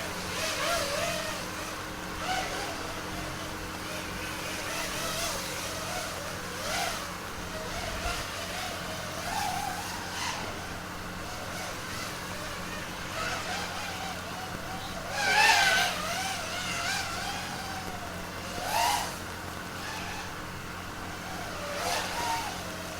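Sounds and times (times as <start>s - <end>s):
quadcopter motors whining: 0.0s - 22.9s.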